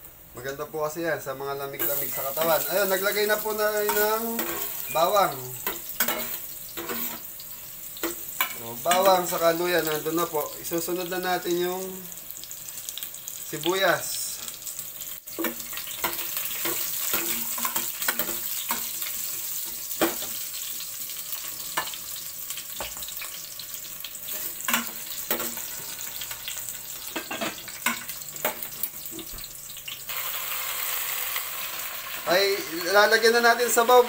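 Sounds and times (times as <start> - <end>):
food sizzling in hot oil: 1.4 - 34.0.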